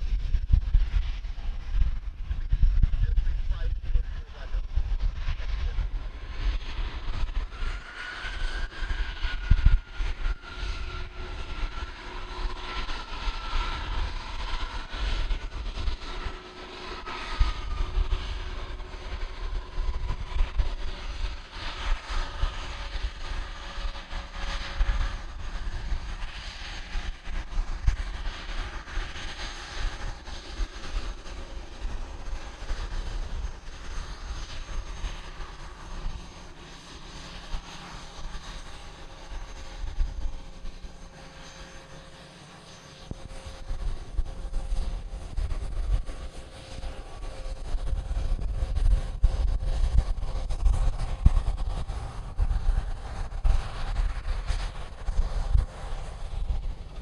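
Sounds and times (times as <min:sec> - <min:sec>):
gusty low rumble: 0:00.0 - 0:57.0
jet engines droning: 0:00.0 - 0:57.0.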